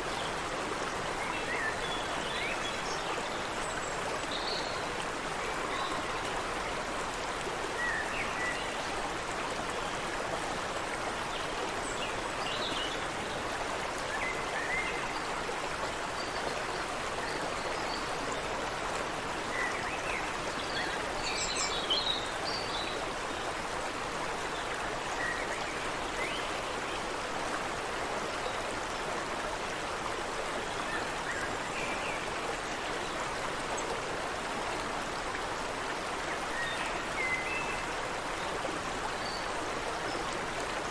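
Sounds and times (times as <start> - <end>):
creek water running: 0.0 - 40.9.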